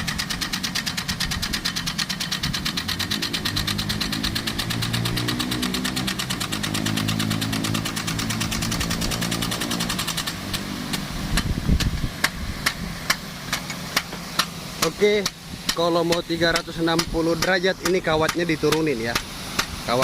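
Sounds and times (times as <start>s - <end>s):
water pump engine running: 0.0s - 20.0s
sharp clicks: 0.3s - 19.7s.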